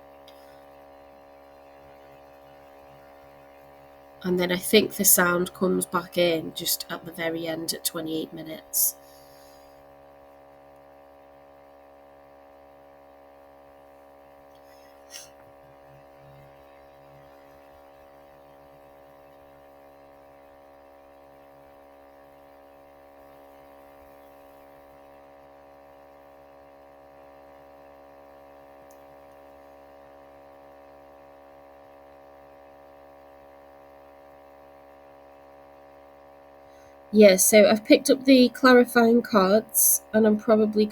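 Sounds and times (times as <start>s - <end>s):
electrical mains hum: 0.0s - 40.9s.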